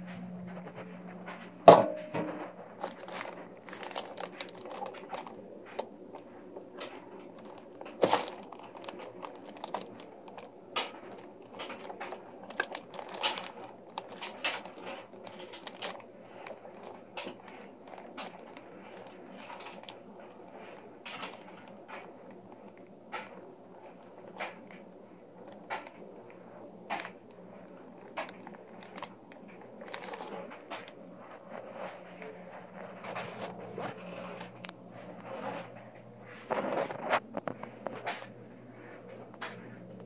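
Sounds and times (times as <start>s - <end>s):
low hum: 0.0s - 40.0s
plastic wrapping crinkling: 2.4s - 38.3s.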